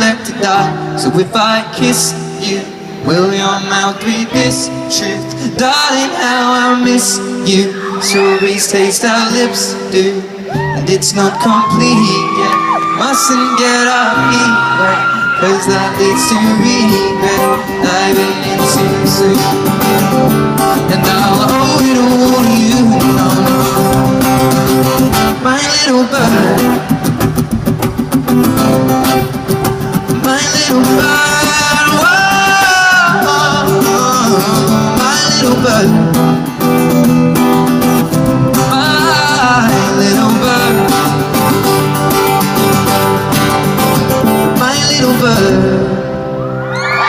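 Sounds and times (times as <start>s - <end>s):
person singing: 0.0s - 27.2s, 29.3s - 47.0s
acoustic guitar: 0.0s - 47.0s.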